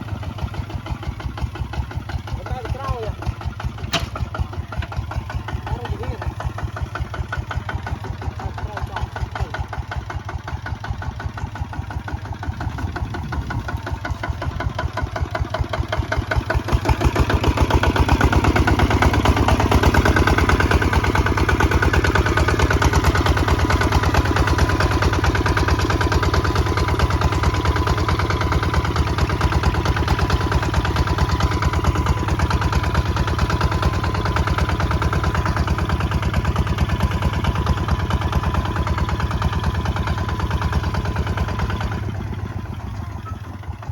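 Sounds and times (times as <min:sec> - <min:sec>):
single-cylinder diesel engine running: 0:00.0 - 0:43.9.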